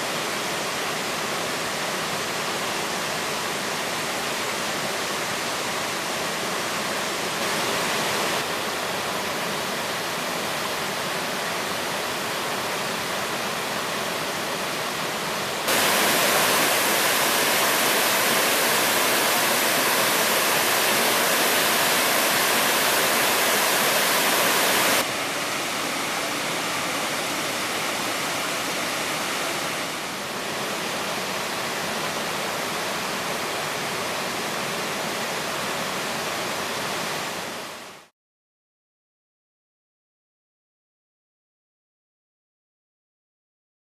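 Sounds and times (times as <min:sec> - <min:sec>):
waterfall rushing: 0:00.0 - 0:38.1.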